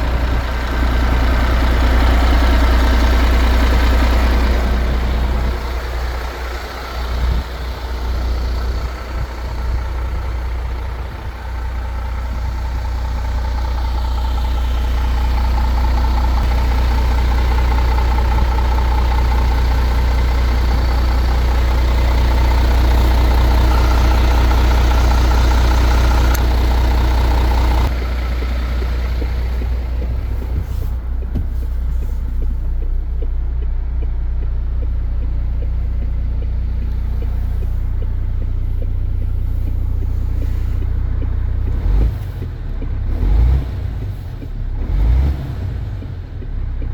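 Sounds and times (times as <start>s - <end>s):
diesel engine droning: 0.0s - 46.9s.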